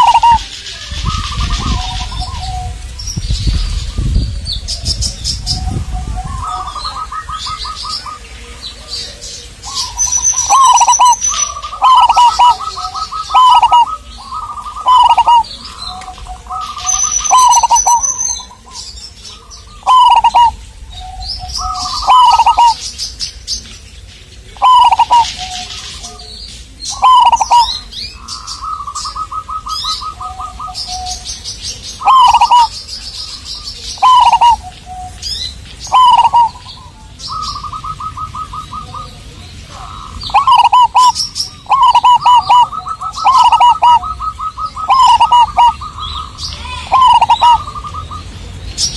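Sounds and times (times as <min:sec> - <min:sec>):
dove cooing: 0:00.0 - 0:03.0, 0:04.9 - 0:23.0, 0:24.5 - 0:48.2
small birds chirping: 0:00.0 - 0:48.9.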